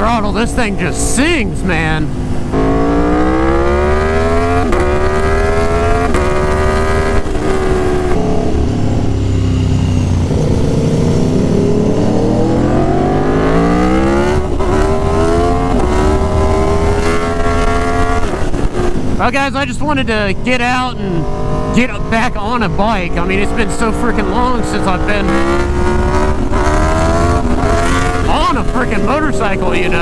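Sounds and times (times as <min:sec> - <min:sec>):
motorcycle engine accelerating hard: 0:00.0 - 0:30.0.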